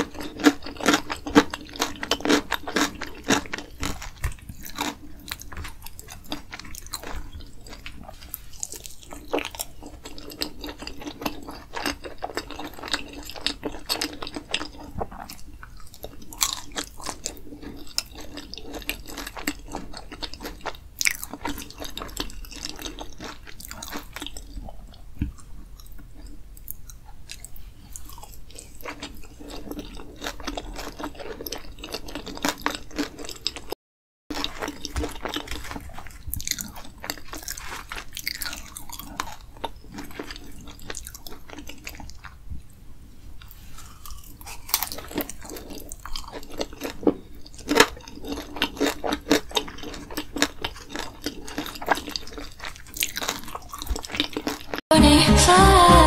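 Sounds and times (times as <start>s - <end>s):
chewing with wet mouth clicks: 0.0s - 42.4s, 43.4s - 54.8s.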